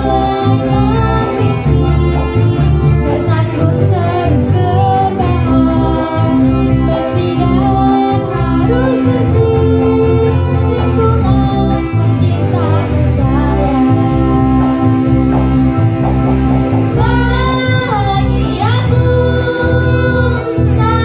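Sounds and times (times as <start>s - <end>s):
electric guitar: 0.0s - 21.0s
keyboard: 0.0s - 21.0s.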